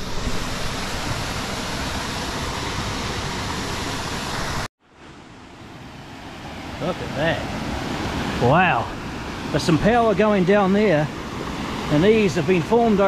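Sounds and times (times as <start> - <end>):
water rushing over rocks: 0.0 - 4.7, 6.1 - 13.0.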